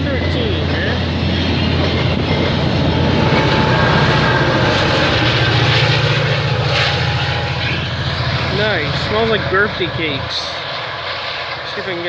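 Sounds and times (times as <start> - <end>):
low locomotive drone: 0.0 - 12.0
train wheels rumbling on rail: 0.0 - 12.0.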